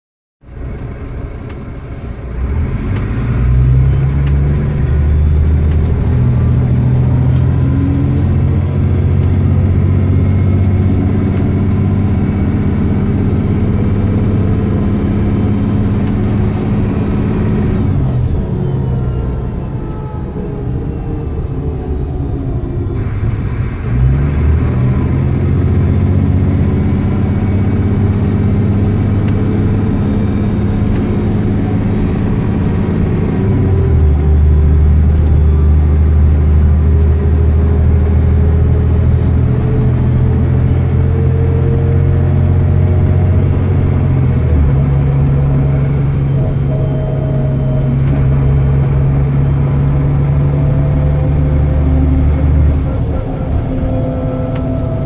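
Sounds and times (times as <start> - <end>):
bus engine rumbling: 0.4 - 55.0.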